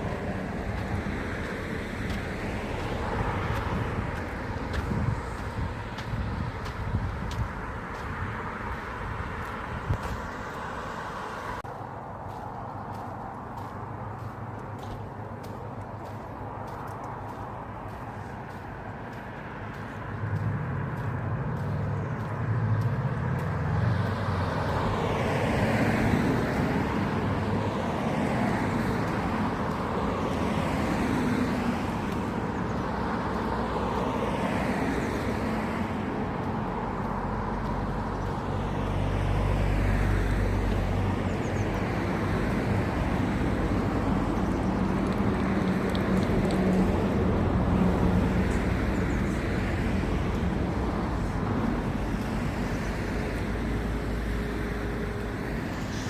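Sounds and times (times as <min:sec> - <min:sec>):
deep vehicle rumble: 0:00.0 - 0:56.0
vehicles passing: 0:00.0 - 0:56.0.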